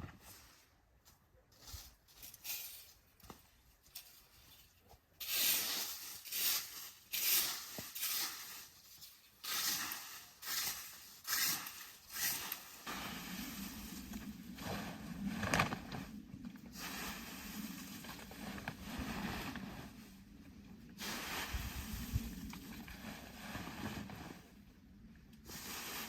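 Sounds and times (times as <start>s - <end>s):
scraping strokes on rough surface: 3.8s - 20.3s, 20.9s - 24.8s, 25.4s - 26.0s.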